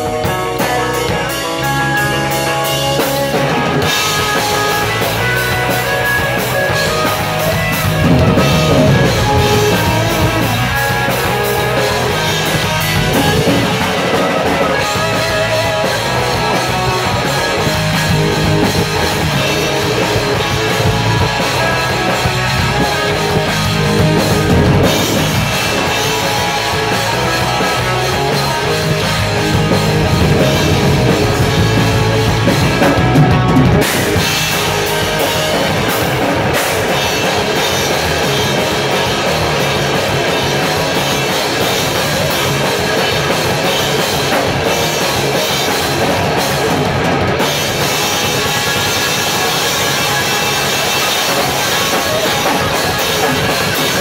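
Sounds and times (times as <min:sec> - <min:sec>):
drum kit: 0:00.0 - 0:54.0
electric bass: 0:00.0 - 0:54.0
electric guitars: 0:00.0 - 0:54.0.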